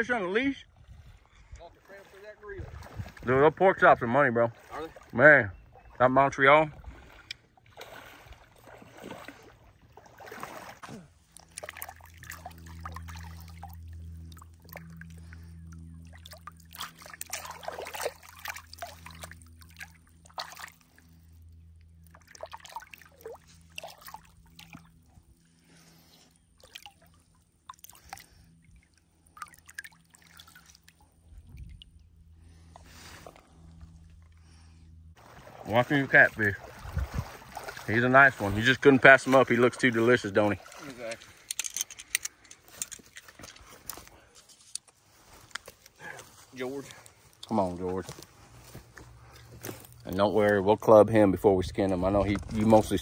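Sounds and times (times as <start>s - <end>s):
low steady hum: 0.0s - 53.0s
water splashing and trickling: 0.7s - 53.0s.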